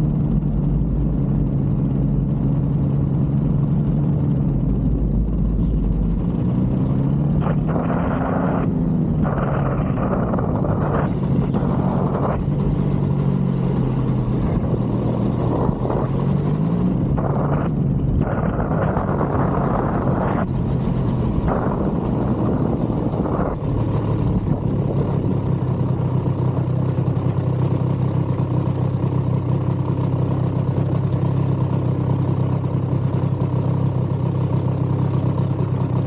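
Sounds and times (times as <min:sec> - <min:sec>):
paramotor engine and propeller droning: 0:00.0 - 0:36.0.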